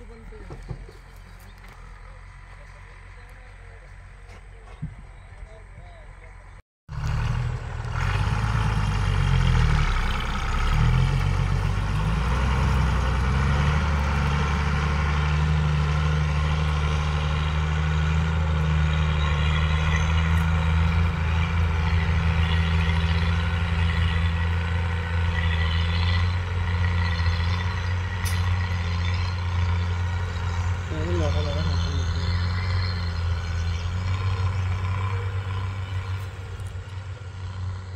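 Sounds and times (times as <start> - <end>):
diesel truck engine under load: 0.0 - 37.9.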